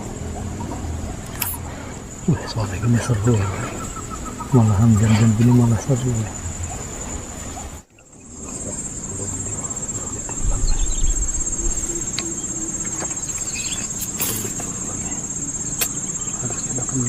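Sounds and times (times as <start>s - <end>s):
low rumble: 0.0s - 14.0s
insects chorus: 0.0s - 17.0s.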